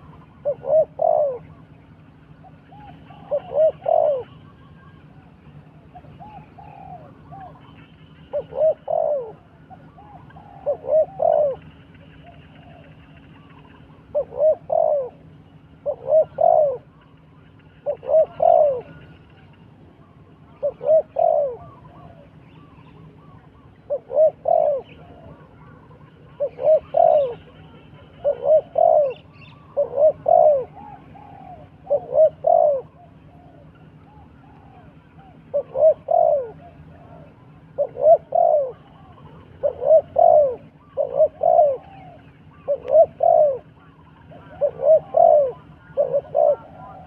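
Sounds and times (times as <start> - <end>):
dove cooing: 0.0 - 47.0
faint bird chirping: 0.0 - 47.0.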